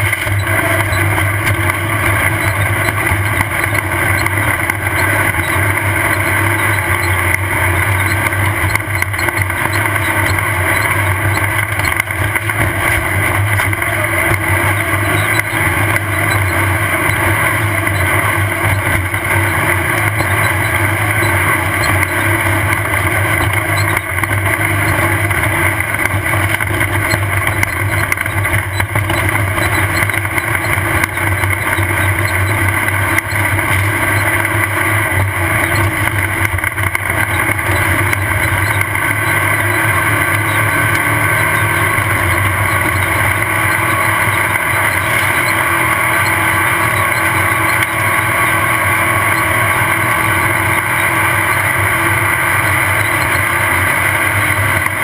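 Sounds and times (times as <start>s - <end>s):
race car engine under load: 0.0s - 55.0s
vehicle rumble and rattle: 0.0s - 55.0s.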